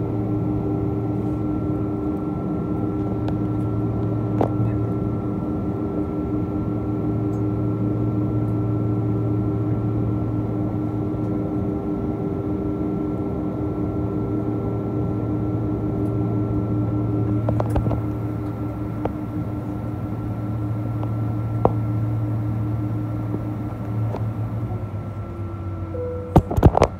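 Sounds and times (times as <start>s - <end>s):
airliner cabin drone: 0.0s - 26.9s.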